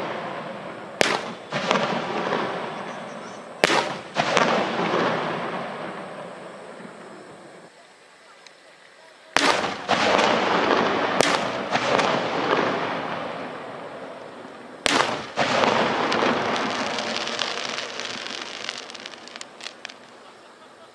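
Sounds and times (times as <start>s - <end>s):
fireworks bangs: 0.0s - 7.6s, 9.3s - 20.7s
fireworks crackling: 0.0s - 20.9s.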